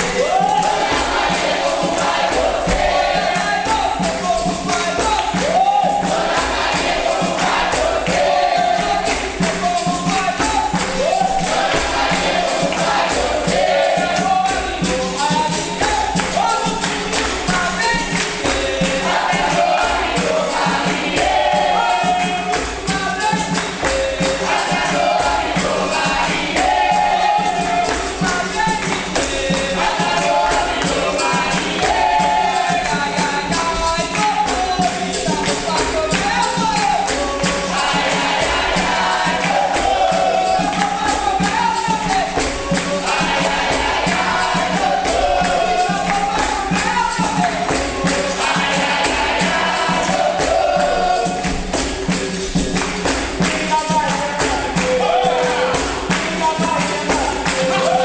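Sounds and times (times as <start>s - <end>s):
group singing together: 0.0s - 58.0s
tambourine and percussion rhythm: 0.0s - 58.0s.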